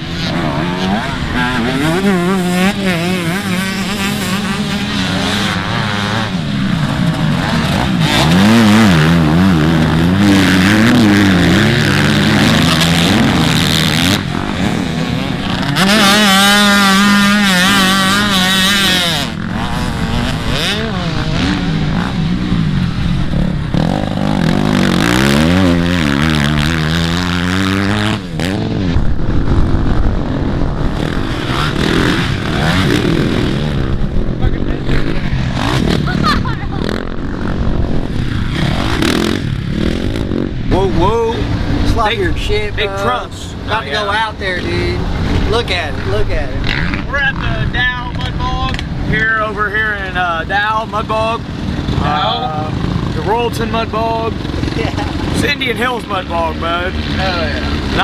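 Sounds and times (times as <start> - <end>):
dirt bike engines racing: 0.0 - 58.0.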